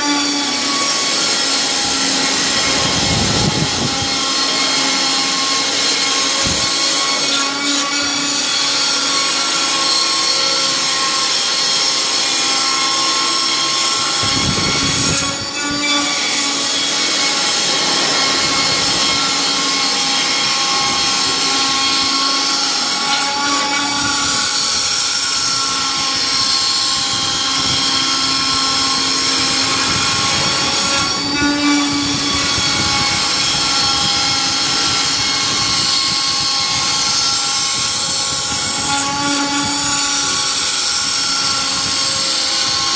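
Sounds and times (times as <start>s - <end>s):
cnc router spindle whine: 0.0s - 42.9s
machining noise: 0.0s - 42.9s.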